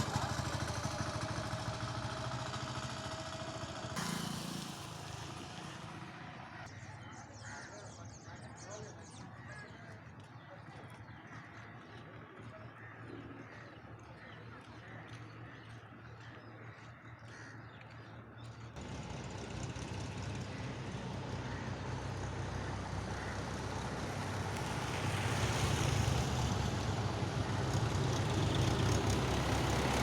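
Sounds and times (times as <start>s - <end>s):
vehicle engine running: 0.0s - 7.7s, 9.4s - 30.0s.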